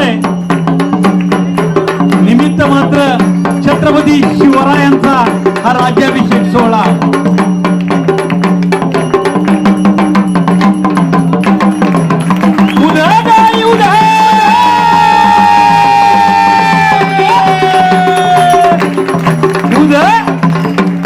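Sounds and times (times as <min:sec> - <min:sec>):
stick-played double drum: 0:00.0 - 0:21.0.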